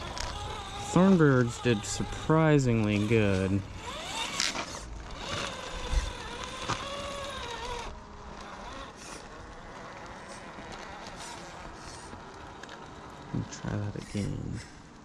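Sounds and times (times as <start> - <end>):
electric motor whining: 0.0 - 14.8.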